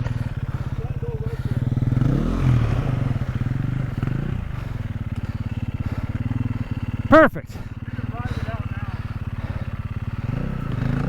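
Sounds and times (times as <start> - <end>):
dirt bike engine idling: 0.0 - 11.0
dirt bike engine revving: 0.0 - 11.0.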